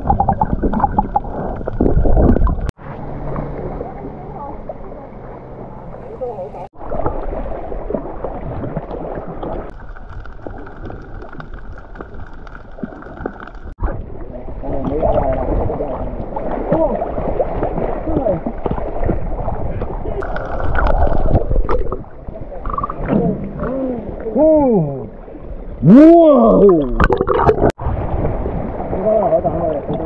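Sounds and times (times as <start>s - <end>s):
sea water sloshing and gurgling: 0.0s - 30.0s.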